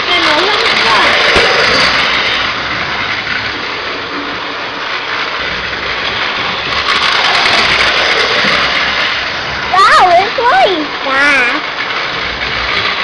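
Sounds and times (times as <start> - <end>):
toy electric train running: 0.0 - 13.0.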